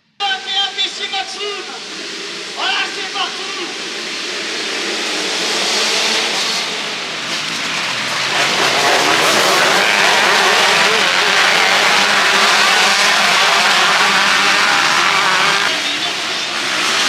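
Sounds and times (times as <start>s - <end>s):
motocross bikes engines: 0.7s - 17.0s.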